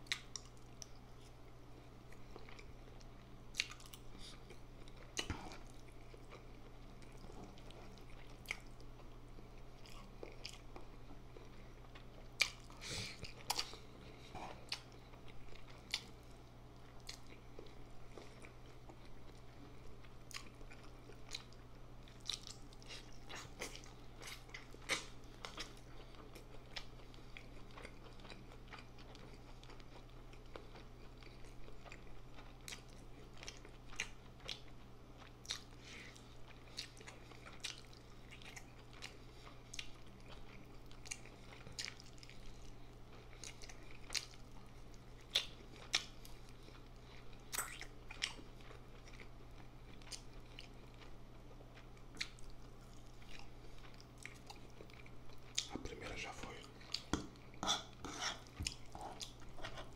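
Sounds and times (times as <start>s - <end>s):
chewing and biting food: 0.0s - 59.9s
faint low hum: 0.0s - 59.9s.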